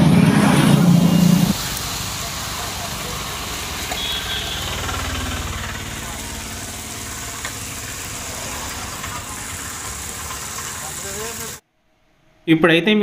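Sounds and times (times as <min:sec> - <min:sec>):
batter sizzling in hot oil: 0:00.7 - 0:11.6.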